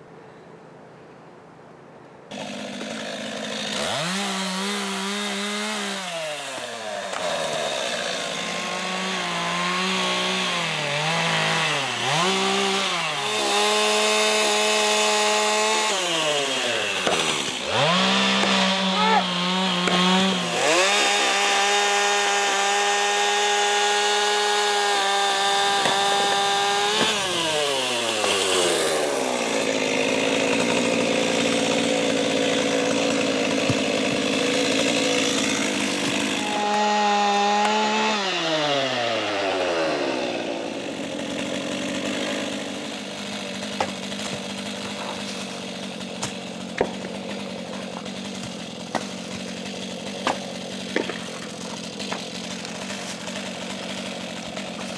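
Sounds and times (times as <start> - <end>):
chainsaw cutting a log: 2.3 - 54.9.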